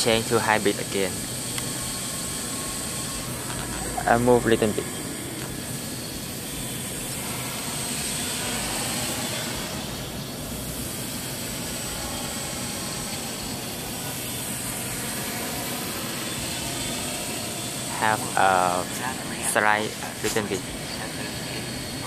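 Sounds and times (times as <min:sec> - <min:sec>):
drone propellers humming: 0:00.0 - 0:22.0.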